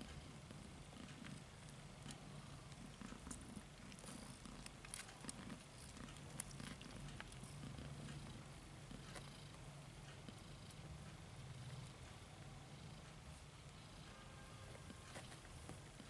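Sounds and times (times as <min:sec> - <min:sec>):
cat purring faintly: 0:00.0 - 0:16.0.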